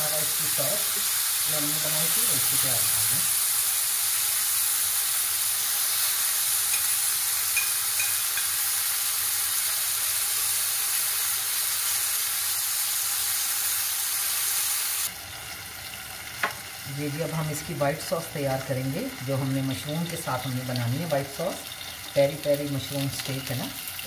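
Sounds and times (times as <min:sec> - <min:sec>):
chicken sizzling on grill pan: 0:00.0 - 0:24.0.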